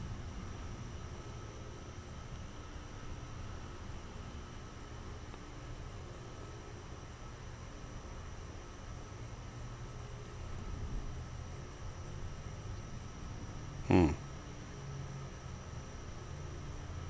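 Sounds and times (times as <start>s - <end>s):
crickets chirping: 0.0s - 17.0s
low rumble and hiss: 0.0s - 17.0s.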